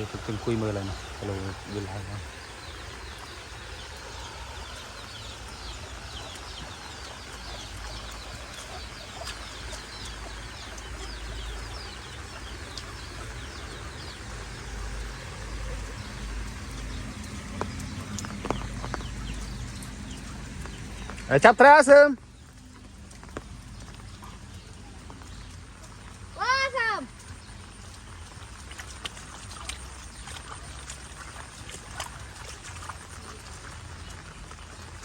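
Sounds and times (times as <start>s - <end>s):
outdoor hiss: 0.0s - 28.5s
birds chirping: 0.0s - 35.0s.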